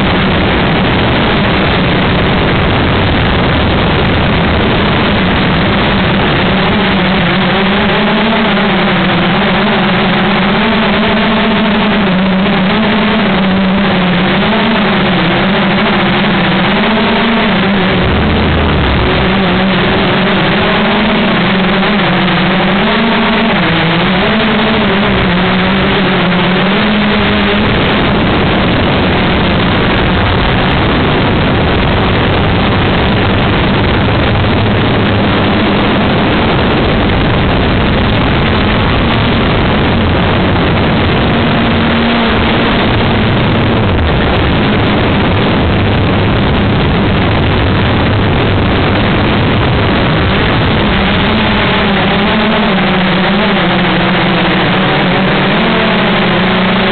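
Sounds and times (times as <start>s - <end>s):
drone motors humming: 0.0s - 56.9s
wind rushing on microphone: 0.0s - 56.9s.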